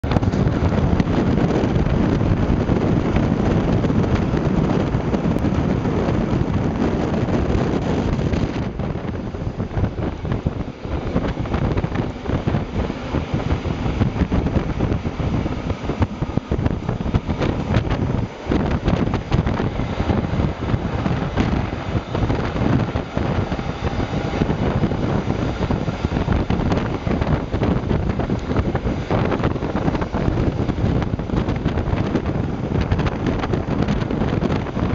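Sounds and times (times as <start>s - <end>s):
train running noise: 0.0s - 34.9s
wind buffeting microphone: 0.0s - 34.9s.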